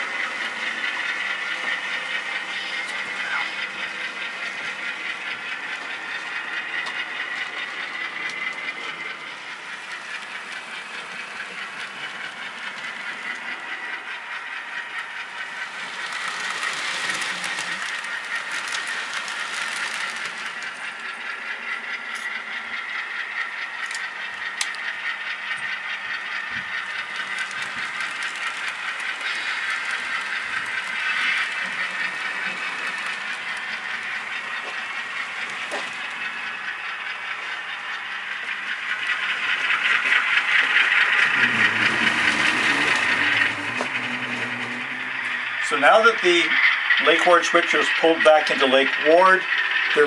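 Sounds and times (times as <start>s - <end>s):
model train rolling on track: 0.0s - 50.0s
sharp clicks of wheels: 0.0s - 50.0s.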